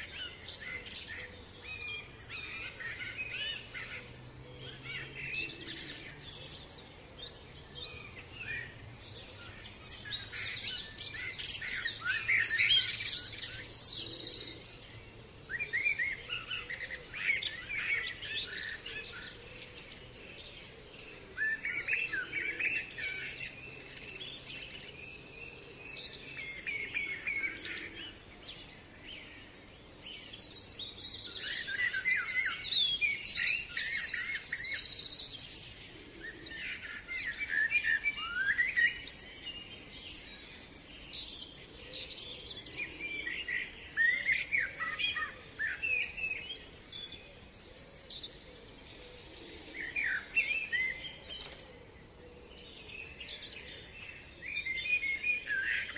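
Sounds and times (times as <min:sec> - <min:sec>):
songbirds trilling and chirping: 0:00.0 - 0:55.9.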